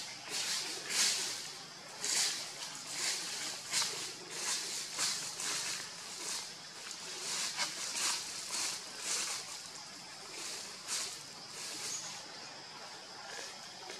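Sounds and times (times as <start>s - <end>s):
steady background noise: 0.0s - 13.9s.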